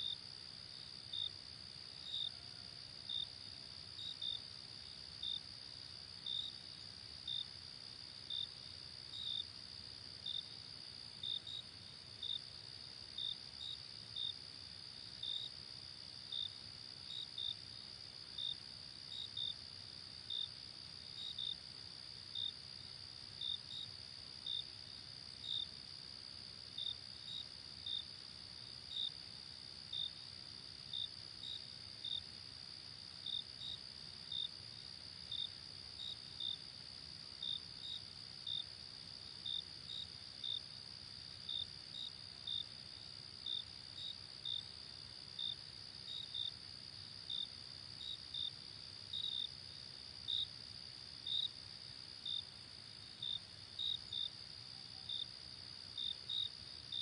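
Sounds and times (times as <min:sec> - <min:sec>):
insect chirps: 0:00.0 - 0:57.0.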